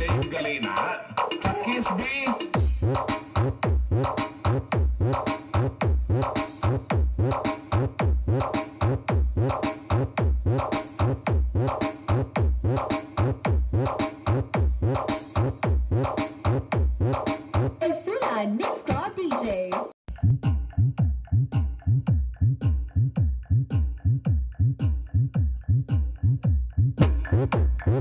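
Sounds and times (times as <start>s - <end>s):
electronic dance music on speakers: 0.0s - 28.0s.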